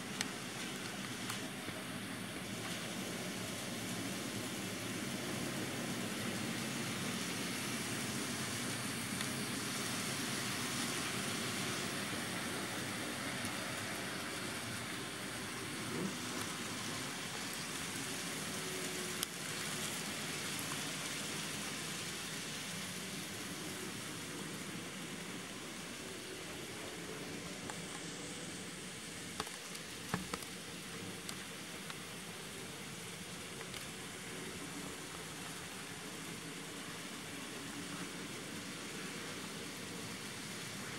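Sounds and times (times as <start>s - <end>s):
model trains running: 0.0s - 40.9s.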